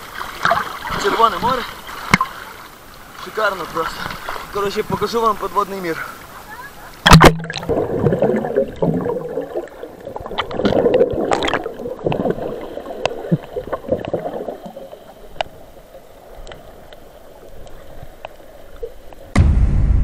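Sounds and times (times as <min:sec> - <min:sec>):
underwater gurgling and bubbles: 0:00.0 - 0:19.4.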